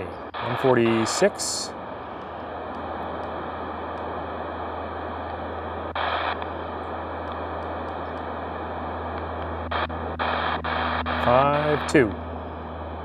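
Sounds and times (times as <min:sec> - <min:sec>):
radio static hissing: 0:00.0 - 0:13.0.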